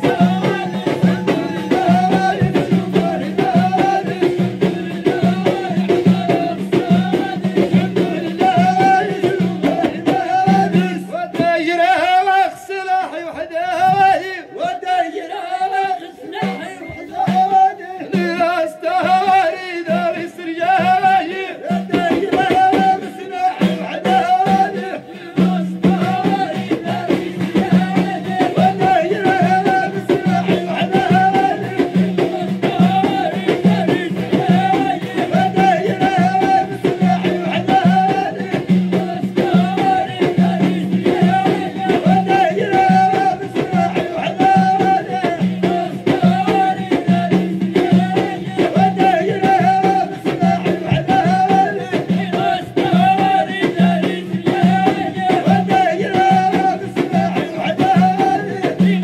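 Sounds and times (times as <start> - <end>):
frame drums beating: 0.0 - 59.0.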